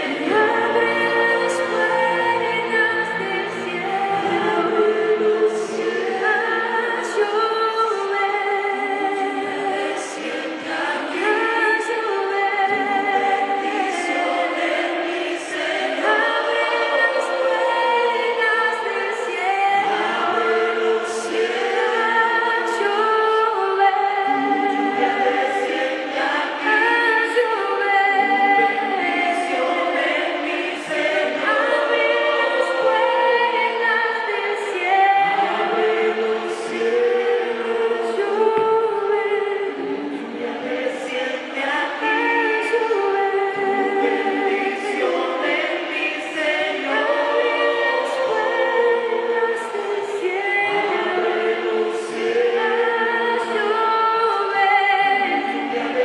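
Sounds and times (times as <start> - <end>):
choir singing worship song: 0.0 - 56.0.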